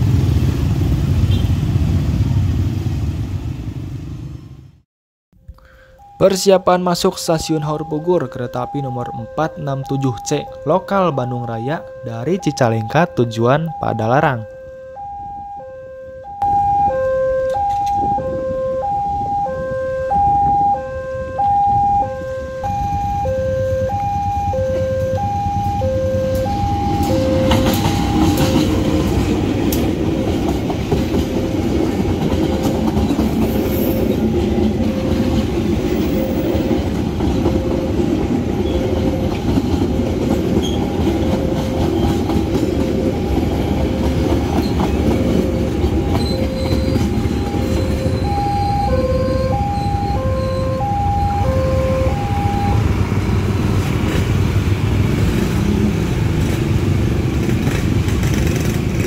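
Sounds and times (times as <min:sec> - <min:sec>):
passenger train passing: 0:00.0 - 0:04.8, 0:05.9 - 0:59.0
level crossing warning alarm: 0:05.6 - 0:53.3.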